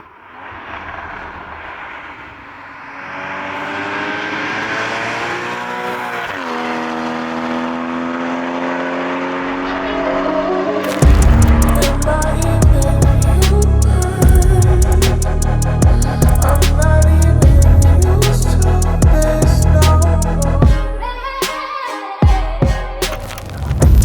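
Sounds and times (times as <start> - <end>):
car engine accelerating: 0.7 - 20.6.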